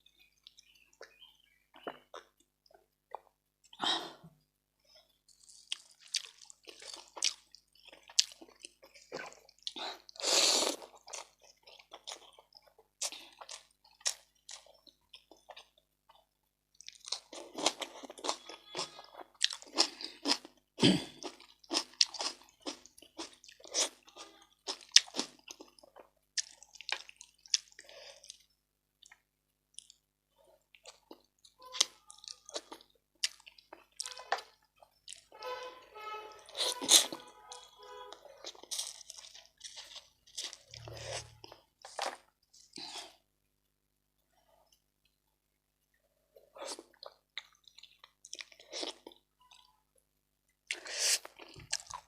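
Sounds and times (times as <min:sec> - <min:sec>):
person chewing and crunching food: 0:00.0 - 0:03.8, 0:04.9 - 0:35.4, 0:36.4 - 0:49.8, 0:50.5 - 0:52.0.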